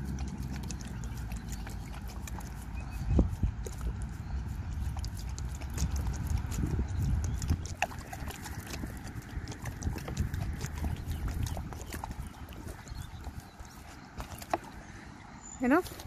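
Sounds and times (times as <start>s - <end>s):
dog lapping water: 0.0s - 16.0s.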